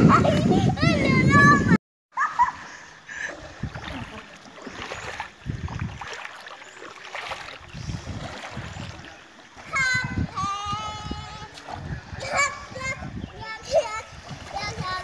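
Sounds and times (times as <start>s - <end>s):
wind rumbling on microphone: 0.0s - 1.8s, 3.3s - 15.0s
water splashing around boats: 0.0s - 15.0s.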